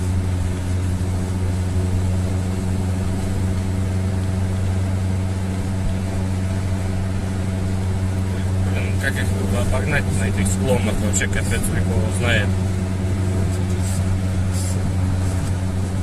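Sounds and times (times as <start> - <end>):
truck engine under load: 0.0 - 16.0.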